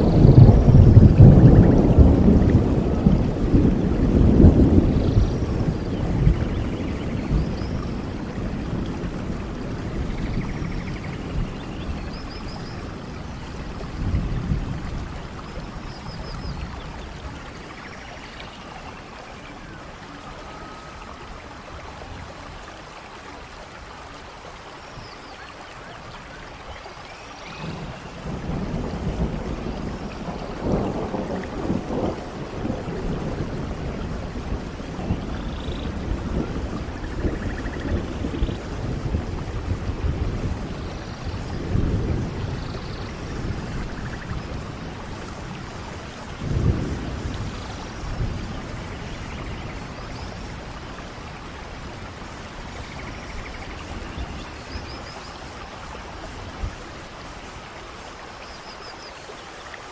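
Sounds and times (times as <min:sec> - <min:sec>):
thunder rumbling: 0:00.0 - 0:17.9, 0:27.5 - 0:58.1
steady rain: 0:00.0 - 0:59.9.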